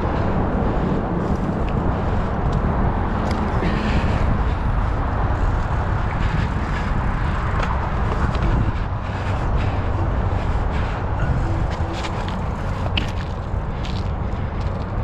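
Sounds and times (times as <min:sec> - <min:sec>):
bike tyres rolling on pavement: 0:00.0 - 0:15.0
wind on microphone: 0:00.0 - 0:15.0.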